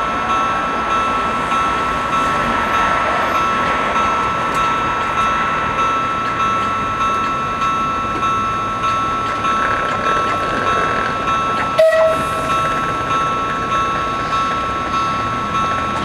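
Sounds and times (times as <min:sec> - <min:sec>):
level crossing warning bells: 0:00.0 - 0:16.0.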